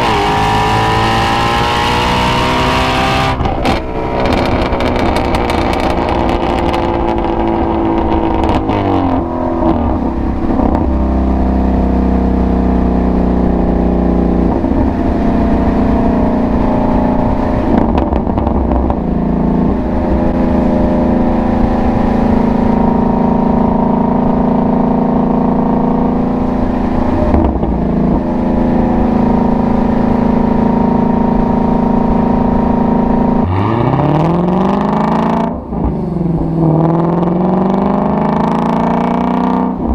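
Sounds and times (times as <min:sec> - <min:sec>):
car engine exhaust while driving: 0:00.0 - 0:39.9.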